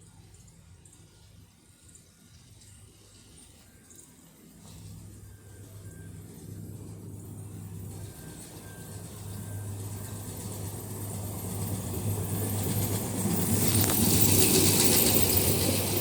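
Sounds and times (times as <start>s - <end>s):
freight train engine hum: 0.0s - 16.0s
train rolling noise: 0.0s - 16.0s.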